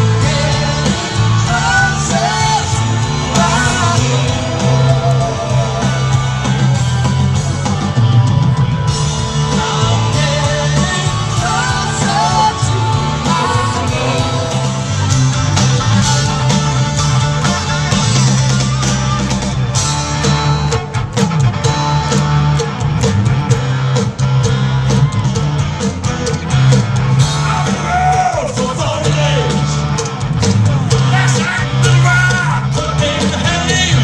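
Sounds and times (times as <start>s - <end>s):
bass line: 0.0s - 34.0s
drum beat: 0.0s - 34.0s
electric guitar: 0.0s - 34.0s.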